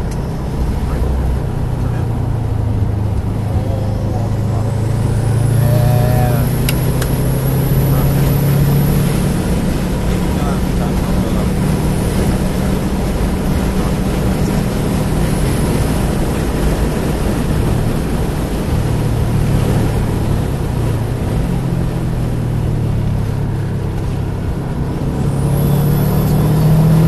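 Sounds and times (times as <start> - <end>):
car engine pulling: 0.0 - 27.0
wind noise: 0.0 - 27.0.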